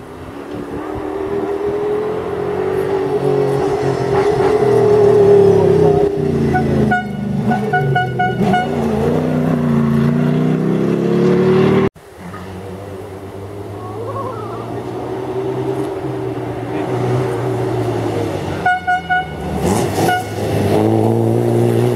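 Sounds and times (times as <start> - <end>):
distant rally car approaching: 0.1 - 21.9.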